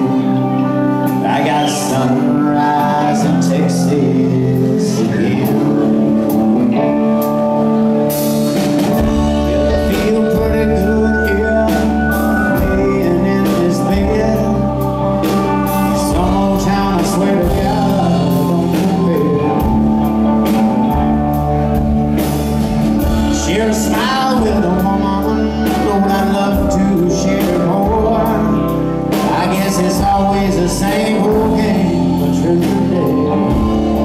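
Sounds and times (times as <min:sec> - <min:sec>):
rock band playing live: 0:00.0 - 0:34.0.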